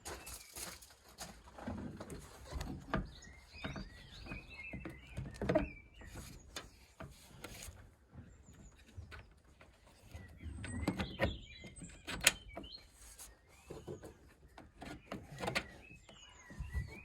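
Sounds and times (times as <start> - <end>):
birds chirping: 2.1 - 17.0.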